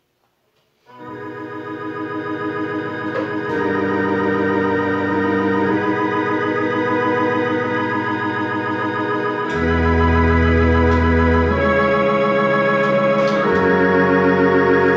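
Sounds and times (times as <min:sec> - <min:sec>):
electronic organ chords: 0:00.9 - 0:14.9.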